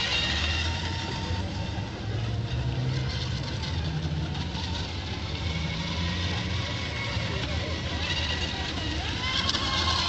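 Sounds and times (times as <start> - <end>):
model boat motor hum: 0.0 - 10.0.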